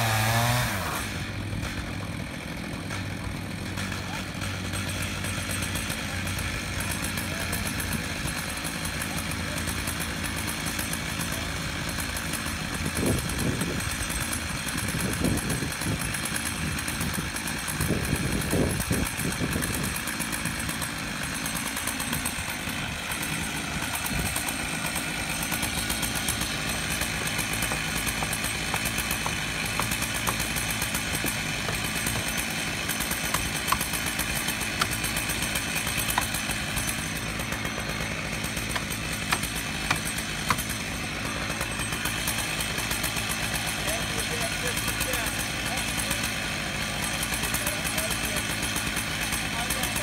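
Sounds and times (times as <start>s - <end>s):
chainsaws cutting log: 0.0s - 50.0s.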